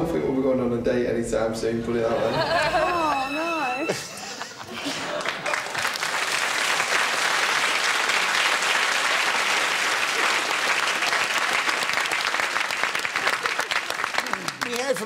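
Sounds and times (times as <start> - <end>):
audience applauding: 2.4 - 15.0.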